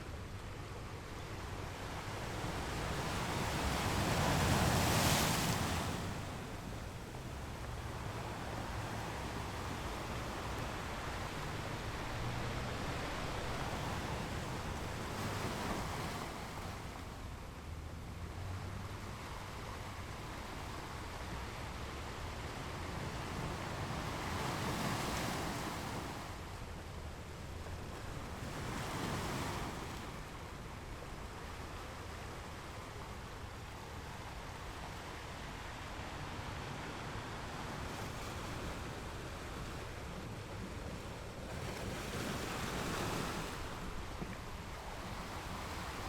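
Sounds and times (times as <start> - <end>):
surf washing: 1.4 - 46.0.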